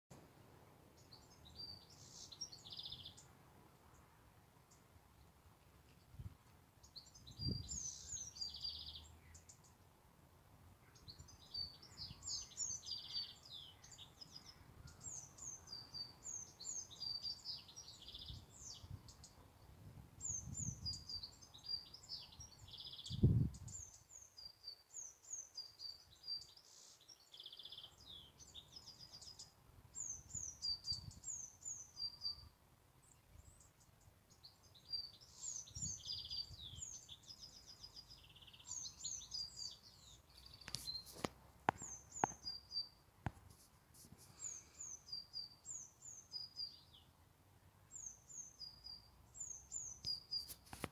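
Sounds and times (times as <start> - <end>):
songbird singing: 0.1 - 50.9.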